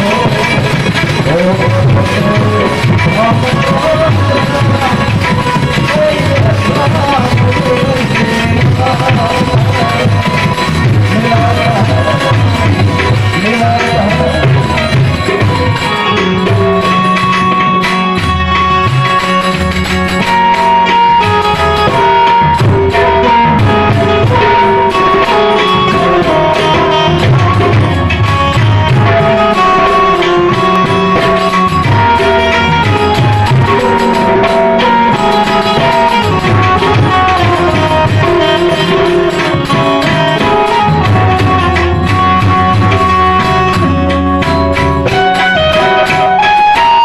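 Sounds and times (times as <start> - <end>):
hand drums beating: 0.0 - 47.0
melody instrument playing held notes: 0.0 - 47.0.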